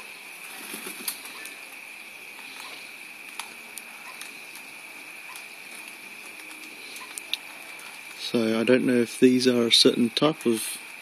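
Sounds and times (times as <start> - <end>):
high-pitched hum with hiss: 0.0 - 11.0.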